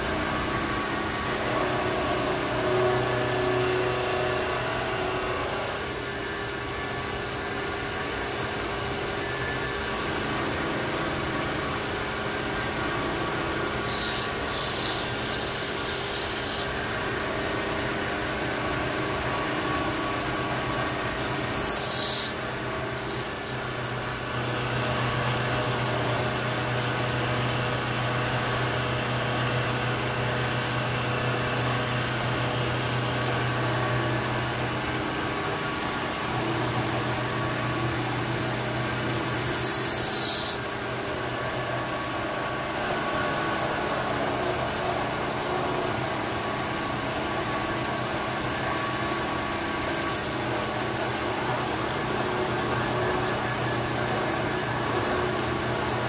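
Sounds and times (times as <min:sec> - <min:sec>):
milling machine humming and whining: 0:00.0 - 0:56.0.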